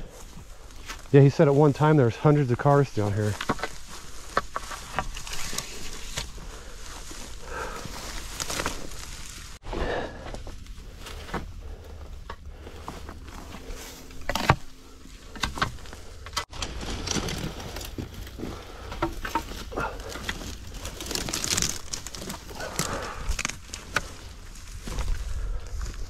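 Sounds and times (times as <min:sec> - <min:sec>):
footsteps on rocky ground: 0:00.0 - 0:09.6, 0:10.2 - 0:26.0.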